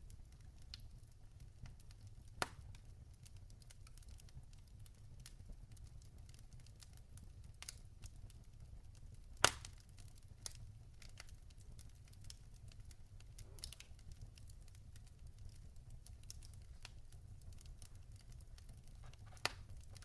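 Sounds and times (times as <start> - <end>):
fire low rumble: 0.0 - 20.0
logs crackling and popping: 0.0 - 20.0.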